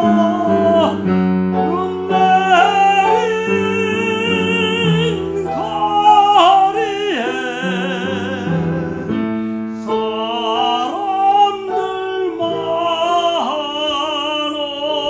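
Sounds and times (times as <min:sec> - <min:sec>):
man singing classical song: 0:00.0 - 0:15.0
piano accompaniment: 0:00.0 - 0:15.0.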